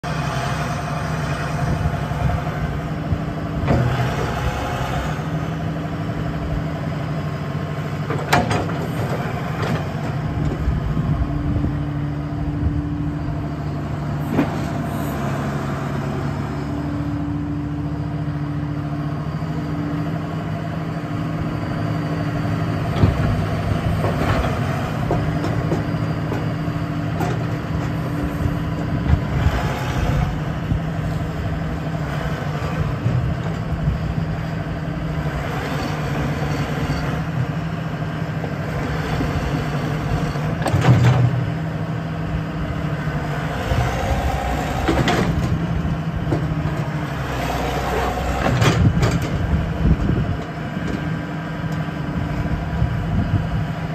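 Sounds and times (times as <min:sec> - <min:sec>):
excavator diesel engine running: 0:00.0 - 0:53.9
hydraulic whine: 0:00.0 - 0:53.9.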